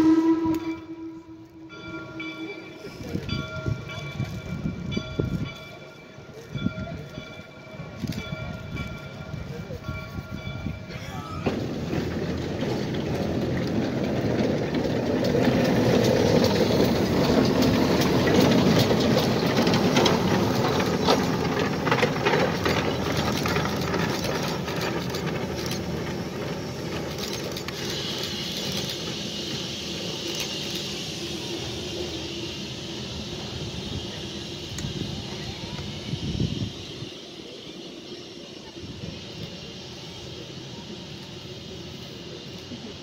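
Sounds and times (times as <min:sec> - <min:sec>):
rail clicks: 0:00.0 - 0:43.0
steam hiss: 0:00.0 - 0:43.0
steam locomotive chuffing: 0:00.0 - 0:43.0.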